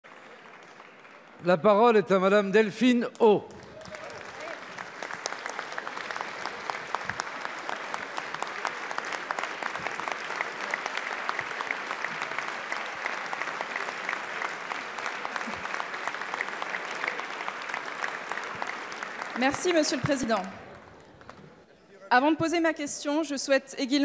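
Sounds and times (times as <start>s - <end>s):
crowd applauding: 0.0s - 2.3s, 3.0s - 21.7s.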